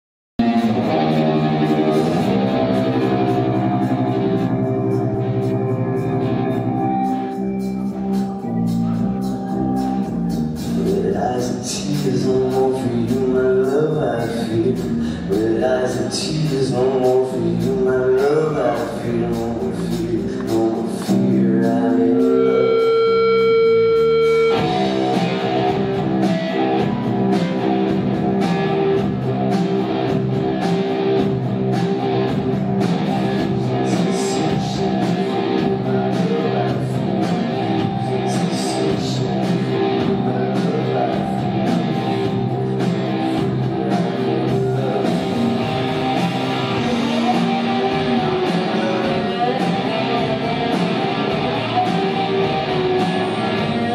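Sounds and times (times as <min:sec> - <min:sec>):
electric guitar: 0:00.4 - 0:53.9
live rock band playing: 0:00.4 - 0:53.9.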